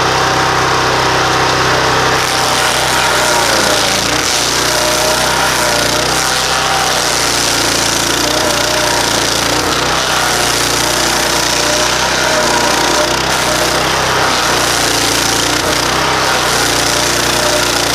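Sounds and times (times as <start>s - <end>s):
engine drone: 0.0s - 17.9s
stump grinder grinding wood: 0.0s - 17.9s.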